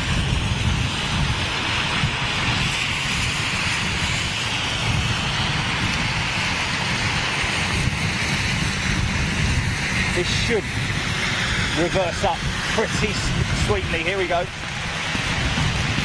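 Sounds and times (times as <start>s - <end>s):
jet airliner roaring: 0.0s - 16.0s
rain hissing: 0.0s - 16.0s
wind on microphone: 0.0s - 16.0s.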